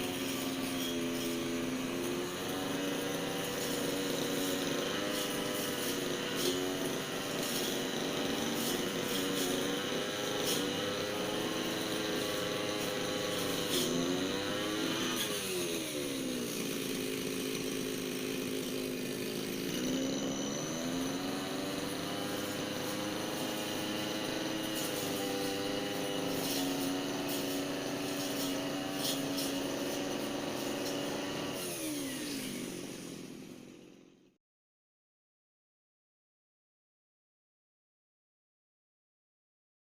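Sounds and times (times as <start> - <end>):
brush cutter engine revving: 0.0 - 34.3.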